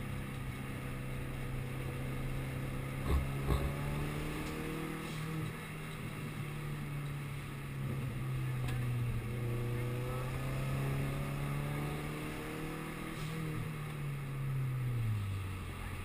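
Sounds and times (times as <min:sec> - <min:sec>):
car engine from inside cabin: 0:00.0 - 0:16.0.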